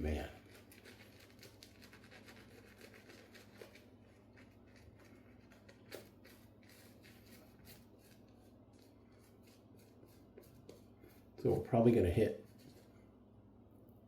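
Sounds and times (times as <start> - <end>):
shaving brush strokes: 0.0 - 13.0.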